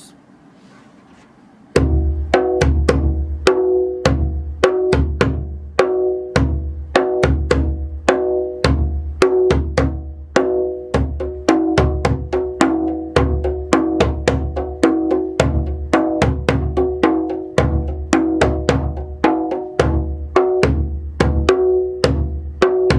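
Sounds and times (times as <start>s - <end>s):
djembe played by hand: 1.8s - 22.9s.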